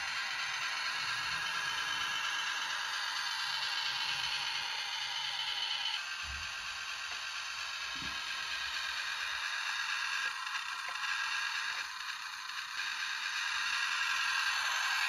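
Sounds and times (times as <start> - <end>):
toy truck motor whirring: 0.0 - 15.0.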